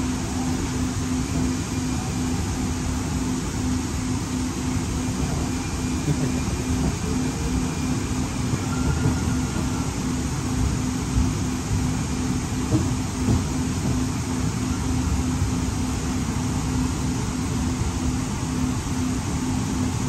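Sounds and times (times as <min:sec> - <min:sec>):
train running gear rumbling on rails: 0:00.0 - 0:20.0.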